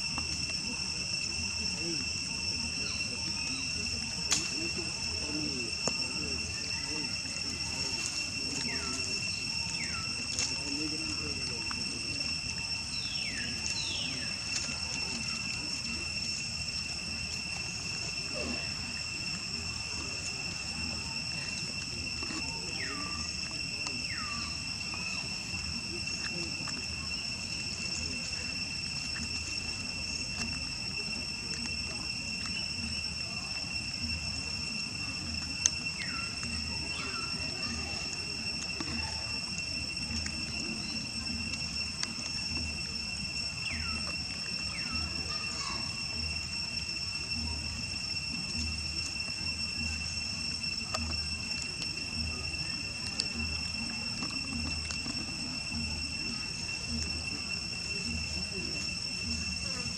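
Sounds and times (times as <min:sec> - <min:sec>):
insects droning whine: 0:00.0 - 0:59.9.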